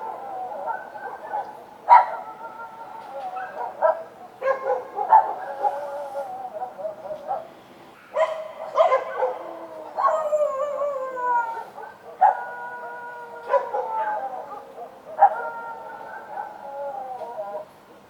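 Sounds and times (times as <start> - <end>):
dogs barking: 0.0 - 2.6, 3.2 - 10.8, 11.6 - 16.7
dogs howling: 0.0 - 7.5, 8.1 - 17.7.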